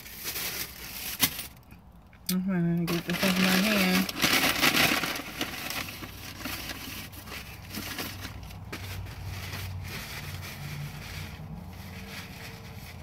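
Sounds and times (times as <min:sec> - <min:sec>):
tissue crinkling: 0:00.0 - 0:01.6, 0:02.9 - 0:13.0.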